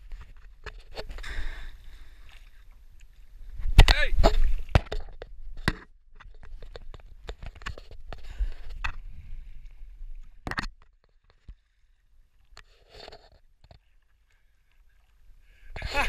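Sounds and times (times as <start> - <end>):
water sloshing against paddleboard: 0.0 - 16.0.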